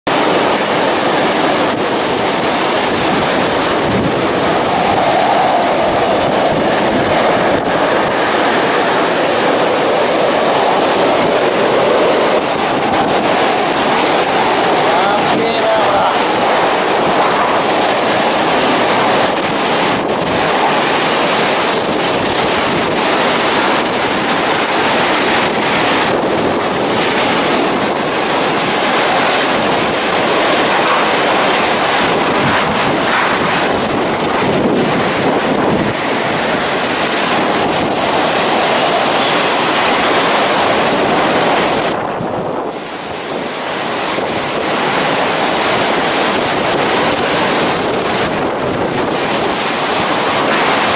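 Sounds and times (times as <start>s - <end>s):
strong wind buffeting microphone: 0.1s - 50.9s.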